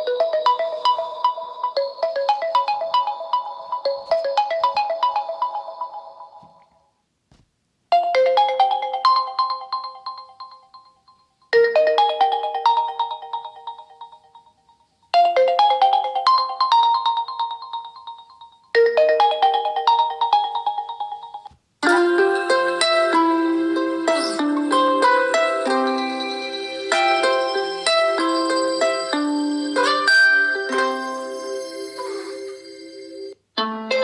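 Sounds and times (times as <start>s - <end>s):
phone ringtone: 0.0s - 6.4s, 8.0s - 33.4s.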